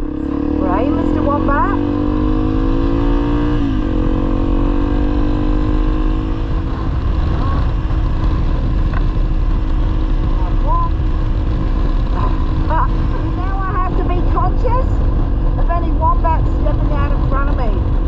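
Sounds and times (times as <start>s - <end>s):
heavy low rumble: 0.0s - 18.0s
motorcycle engine: 0.0s - 18.0s.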